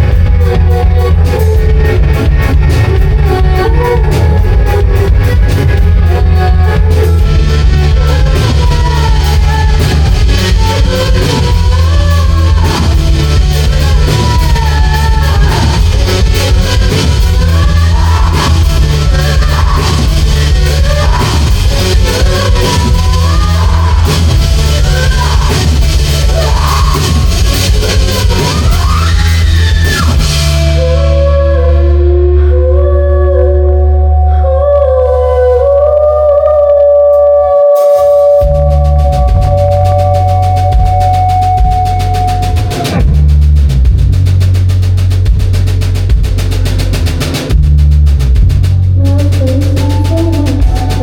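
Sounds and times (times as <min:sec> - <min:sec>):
drum kit: 0:00.0 - 0:31.6, 0:37.8 - 0:51.0
person singing: 0:00.0 - 0:43.1, 0:48.8 - 0:51.0
bass guitar: 0:00.0 - 0:51.0.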